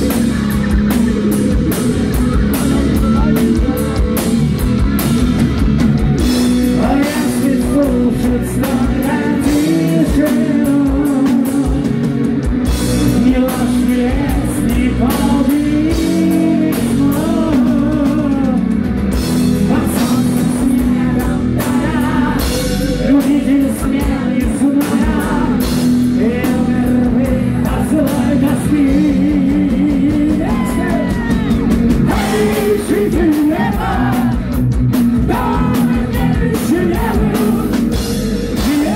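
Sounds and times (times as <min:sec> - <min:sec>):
distorted electric guitars: 0:00.0 - 0:38.9
heavy metal band playing live: 0:00.0 - 0:38.9
man singing: 0:02.2 - 0:04.4, 0:06.4 - 0:38.9.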